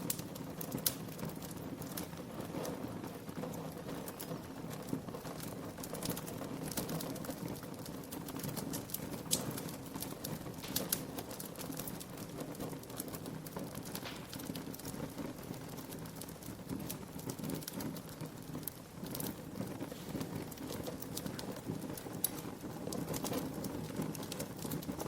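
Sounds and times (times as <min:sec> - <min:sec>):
low fire rumble: 0:00.0 - 0:25.0
wood fire crackling: 0:00.0 - 0:25.0.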